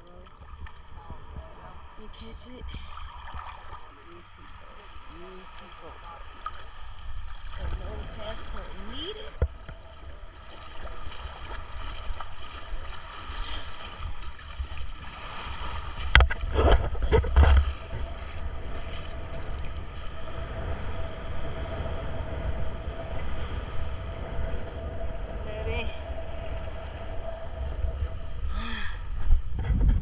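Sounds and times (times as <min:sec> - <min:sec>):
faint steady hum: 0:00.0 - 0:30.0
wind rumble on microphone: 0:00.0 - 0:30.0.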